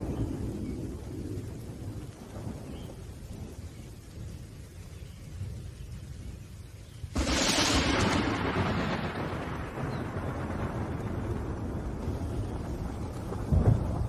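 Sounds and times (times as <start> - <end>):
distant thunder rumbling: 0.0 - 6.4, 7.1 - 14.0
faint rain: 0.0 - 14.0.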